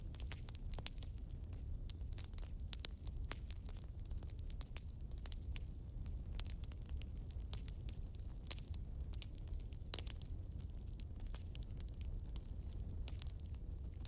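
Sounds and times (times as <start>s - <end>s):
logs crackling and popping: 0.0s - 14.0s
low fire rumble: 0.0s - 14.0s.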